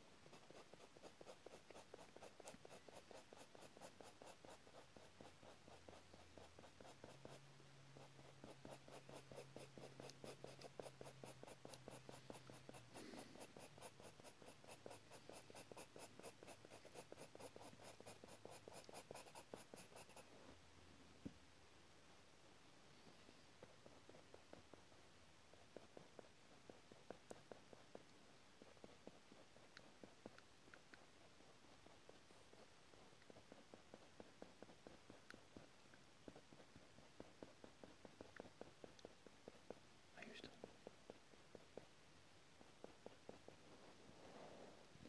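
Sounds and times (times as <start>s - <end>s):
colored pencil scratching on paper: 0.0s - 20.6s, 23.3s - 42.0s, 42.6s - 44.8s.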